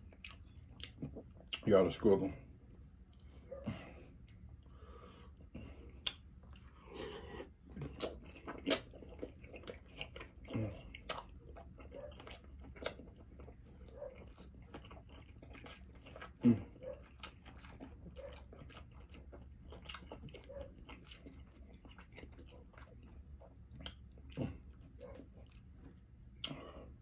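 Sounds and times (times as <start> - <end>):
wet chewing: 0.0 - 1.9, 3.0 - 27.0.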